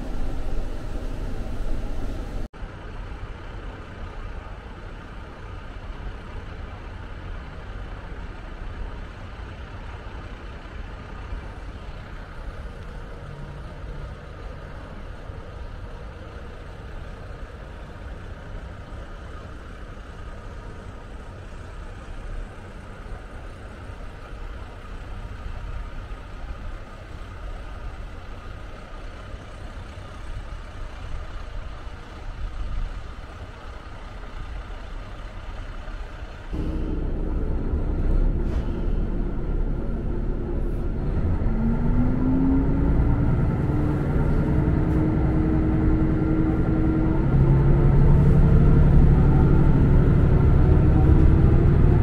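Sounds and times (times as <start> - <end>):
railcar engine rumble: 0.0 - 52.0.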